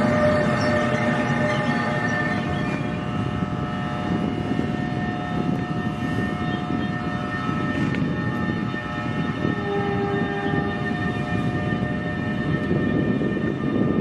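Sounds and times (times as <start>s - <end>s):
electric train drive whine: 0.0s - 14.0s
wheels rumbling on rail: 0.0s - 14.0s.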